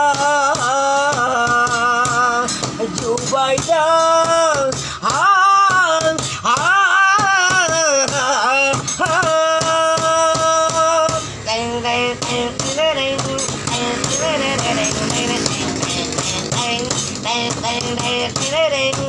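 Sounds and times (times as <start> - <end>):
backing music: 0.0 - 19.0
man singing long notes: 0.0 - 19.0.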